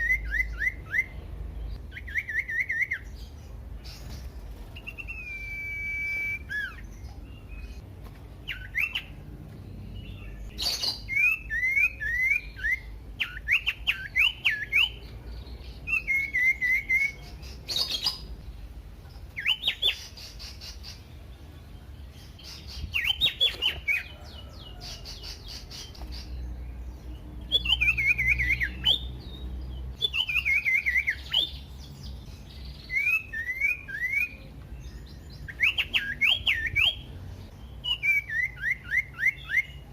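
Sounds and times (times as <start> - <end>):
bird singing whistled notes: 0.0 - 7.8, 8.4 - 18.6, 19.3 - 21.2, 21.9 - 39.9.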